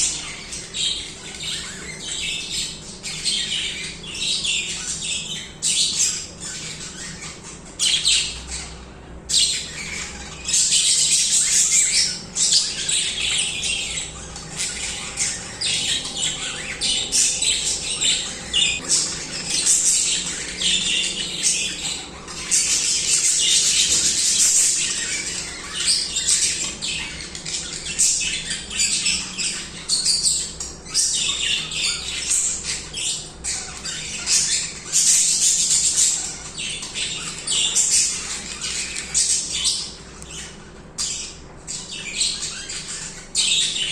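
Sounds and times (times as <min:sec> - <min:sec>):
budgerigars chattering and warbling: 0:00.0 - 0:43.9.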